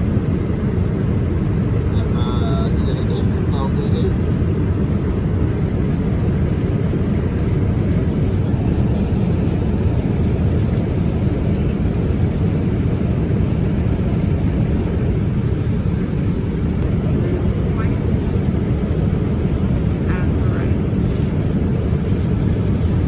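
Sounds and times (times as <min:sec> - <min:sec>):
airliner cabin drone: 0:00.0 - 0:23.0.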